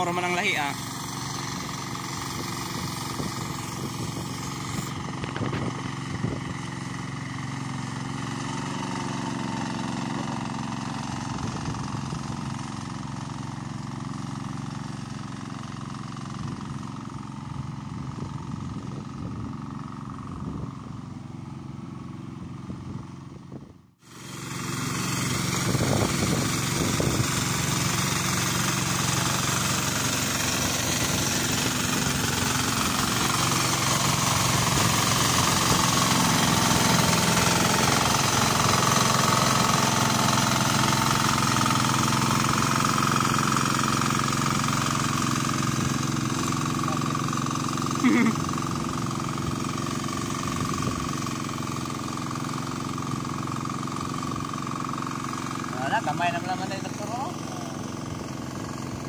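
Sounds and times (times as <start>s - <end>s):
hand tractor diesel engine: 0.0s - 23.4s, 24.0s - 59.0s.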